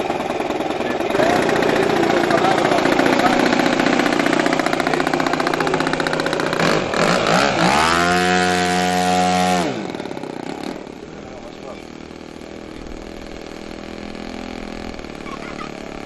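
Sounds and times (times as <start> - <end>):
model airplane engine running: 0.0 - 16.0.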